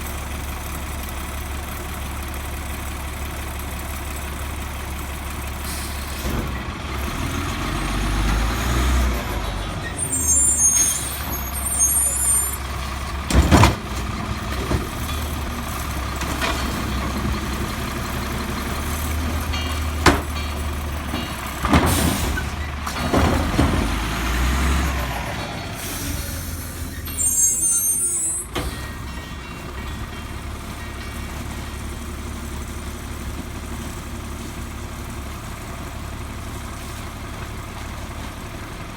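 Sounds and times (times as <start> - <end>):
garbage truck diesel engine: 0.0 - 38.9.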